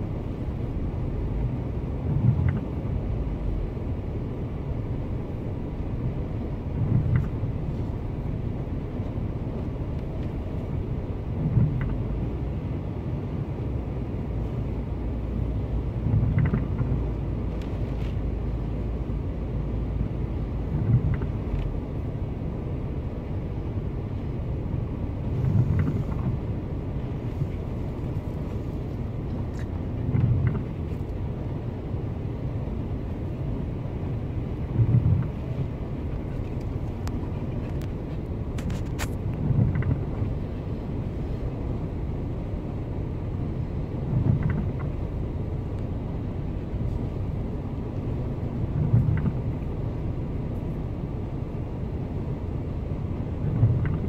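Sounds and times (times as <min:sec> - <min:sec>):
storm wind and surf rumble: 0:00.0 - 0:54.0.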